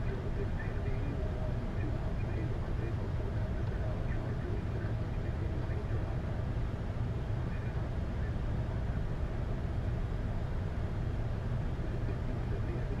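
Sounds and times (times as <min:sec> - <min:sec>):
jet engines low rumble: 0:00.0 - 0:13.0.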